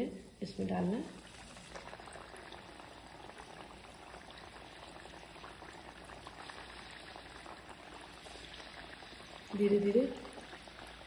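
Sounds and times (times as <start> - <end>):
dough frying in fat: 0.5 - 11.0.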